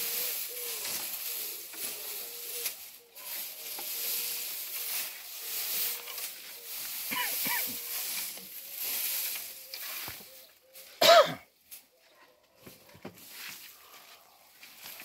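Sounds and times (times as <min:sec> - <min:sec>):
hay rustling: 0:00.0 - 0:11.9, 0:12.8 - 0:15.0.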